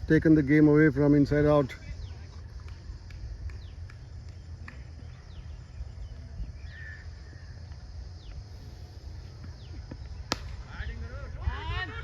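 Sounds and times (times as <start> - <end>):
birds chirping: 0.5 - 12.0.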